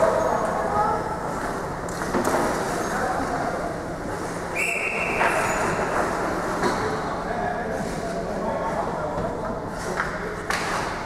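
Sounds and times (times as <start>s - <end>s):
ice rink background noise: 0.0s - 11.0s.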